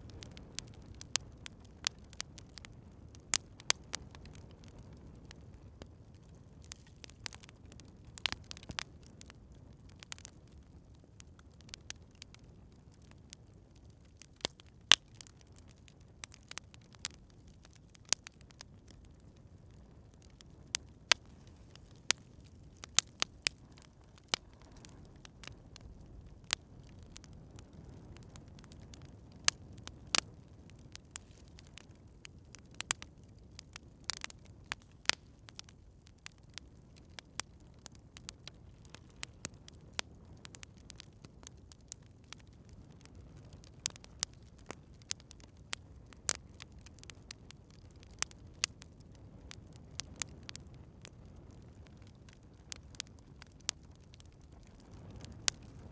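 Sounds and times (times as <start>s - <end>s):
campfire crackling and popping: 0.0s - 55.9s
low rush of burning fire: 0.0s - 55.9s.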